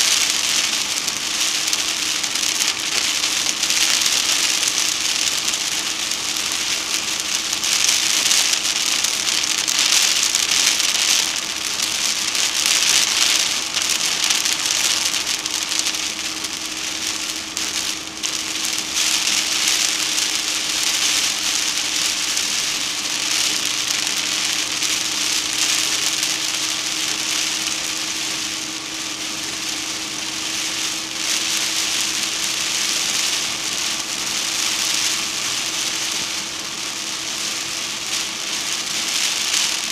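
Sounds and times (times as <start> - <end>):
rain on a car: 0.0 - 39.9
vehicle hum: 0.0 - 39.9.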